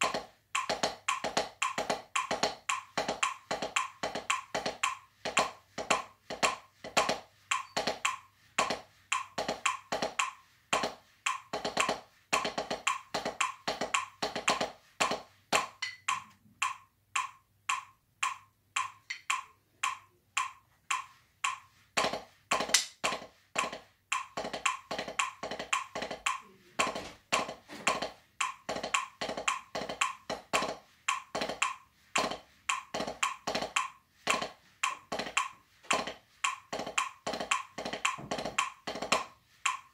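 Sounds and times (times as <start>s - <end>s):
drumsticks tapping practice pad: 0.0s - 39.9s.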